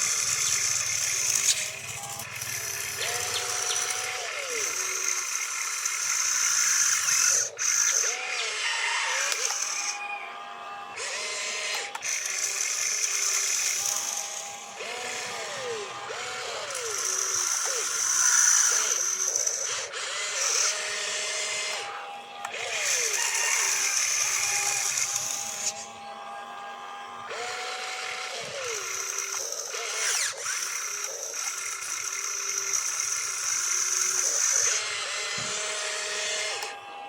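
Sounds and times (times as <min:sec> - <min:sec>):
small electric motors whining: 0:00.0 - 0:37.0.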